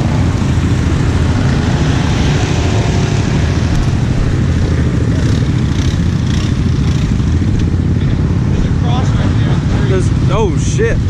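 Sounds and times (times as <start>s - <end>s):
atv engine rumbling: 0.0s - 11.0s.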